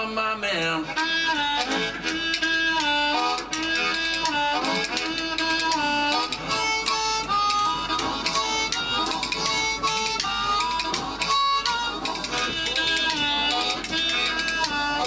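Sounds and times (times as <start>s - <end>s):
blues harmonica: 0.8s - 15.0s.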